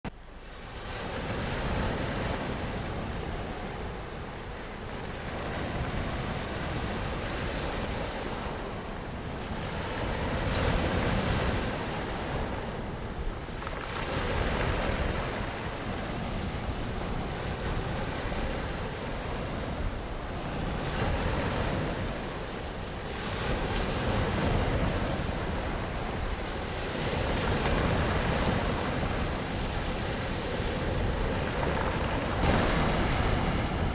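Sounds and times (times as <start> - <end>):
waves washing in: 0.1 - 33.9.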